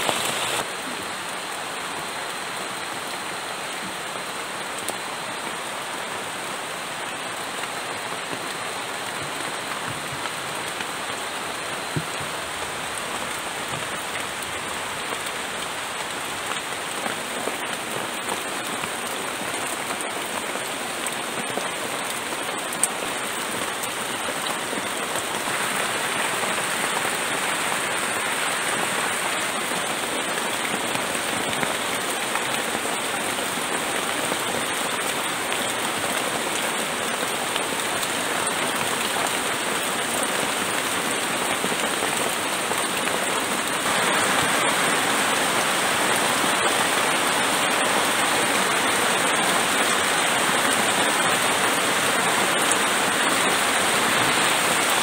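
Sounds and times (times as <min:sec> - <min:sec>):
heavy rain on a tarp shelter: 0:00.0 - 0:55.0.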